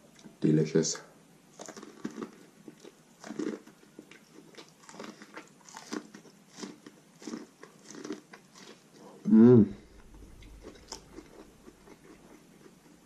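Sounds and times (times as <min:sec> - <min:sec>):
chewing corn on the cob: 0:01.5 - 0:09.2, 0:10.1 - 0:13.0.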